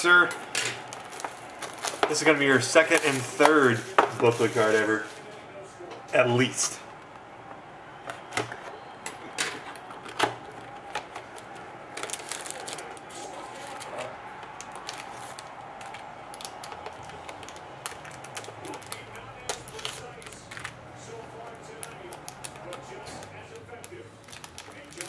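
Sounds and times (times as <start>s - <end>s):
foil packs crinkling: 0.0s - 5.4s, 9.2s - 25.0s.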